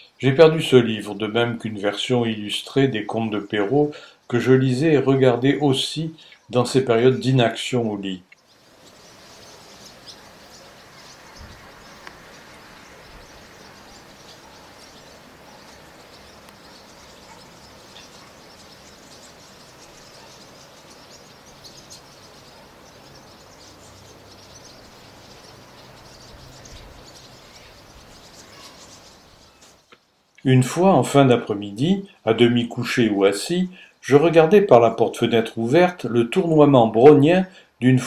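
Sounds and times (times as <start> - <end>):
starlings chirping: 0.0 - 37.8.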